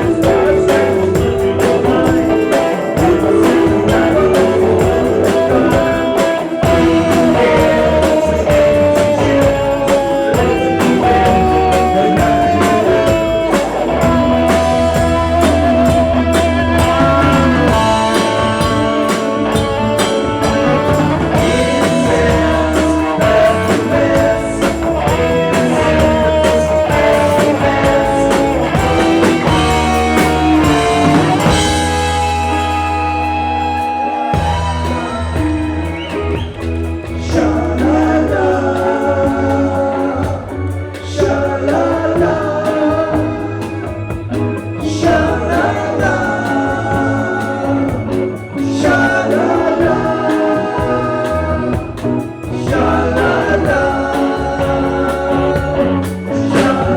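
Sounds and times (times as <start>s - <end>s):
bass line: 0.0s - 56.9s
faint voice singing: 0.0s - 56.9s
guitar-led rock music: 0.0s - 56.9s.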